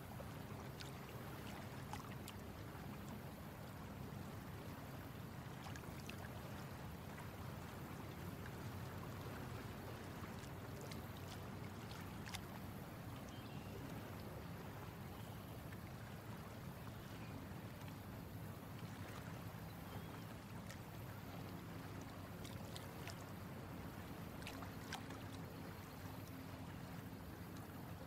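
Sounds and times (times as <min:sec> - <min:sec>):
light ticks and drips: 0:00.0 - 0:28.0
water lapping around boat: 0:00.0 - 0:28.0.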